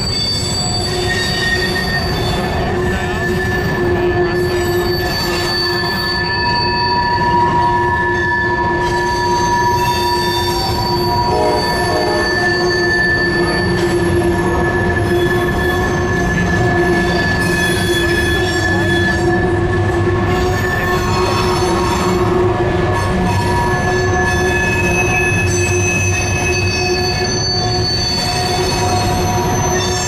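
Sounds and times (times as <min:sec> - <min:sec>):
train rumbling on steel bridge: 0:00.0 - 0:30.0
train wheels squealing: 0:00.0 - 0:30.0.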